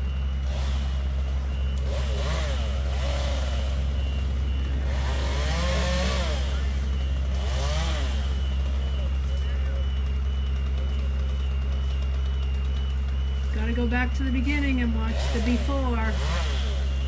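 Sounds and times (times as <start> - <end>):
machinery engine revving: 0.0 - 17.0.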